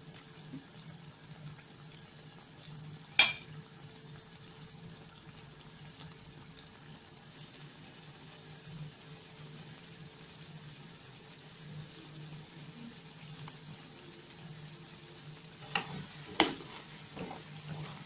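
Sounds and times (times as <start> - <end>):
oil fizzing and crackling: 0.0 - 18.0.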